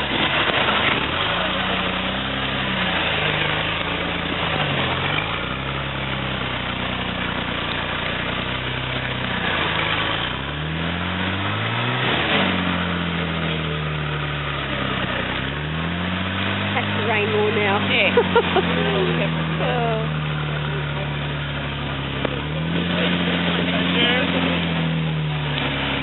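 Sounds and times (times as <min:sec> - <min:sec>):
pickup engine revving in mud: 0:00.0 - 0:26.0.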